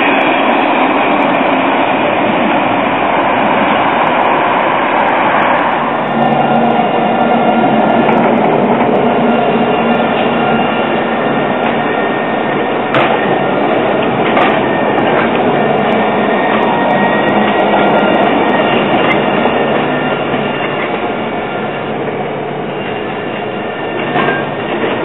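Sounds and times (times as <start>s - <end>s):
tram passing with motor whine: 0.0s - 25.0s.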